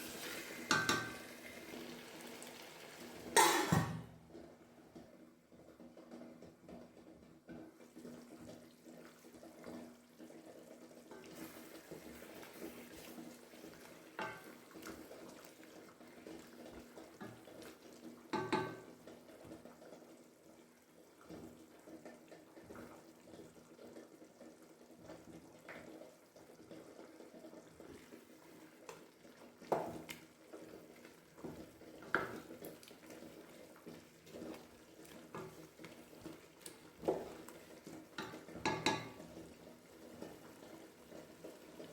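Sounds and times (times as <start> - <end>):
water running: 0.0 - 5.0, 7.6 - 41.9.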